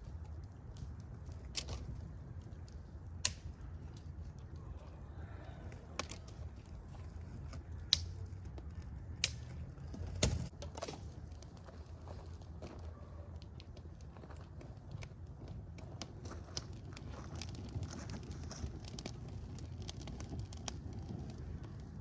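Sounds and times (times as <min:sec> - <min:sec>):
fire crackling pops: 0:00.0 - 0:22.0
wood fire rumbling: 0:00.0 - 0:22.0.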